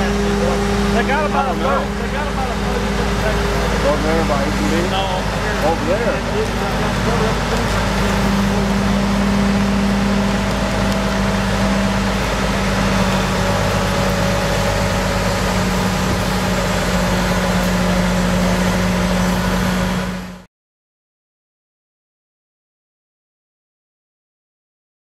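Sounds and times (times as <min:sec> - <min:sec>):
engine running steadily: 0:00.0 - 0:20.5.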